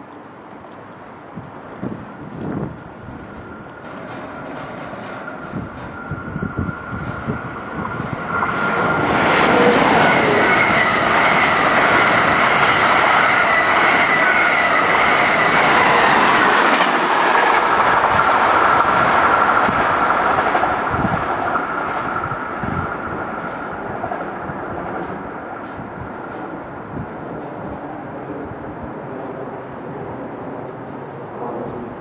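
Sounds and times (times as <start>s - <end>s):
train wheels rushing on rails: 0.2s - 32.0s.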